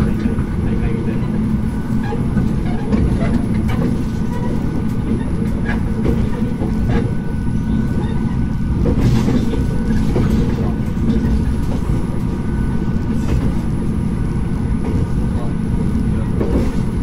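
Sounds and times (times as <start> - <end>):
diesel railcar engine rumble: 0.0 - 17.0
wheels on rails: 0.0 - 17.0.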